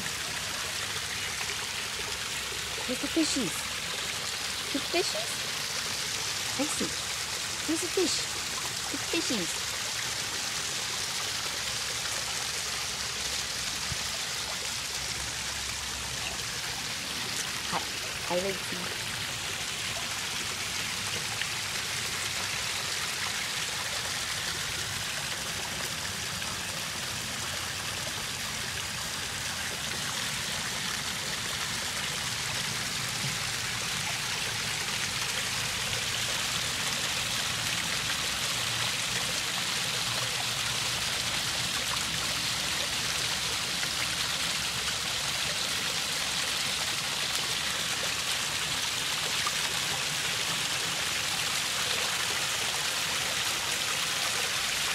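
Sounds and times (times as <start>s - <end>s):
water splashing over rocks: 0.0s - 54.9s.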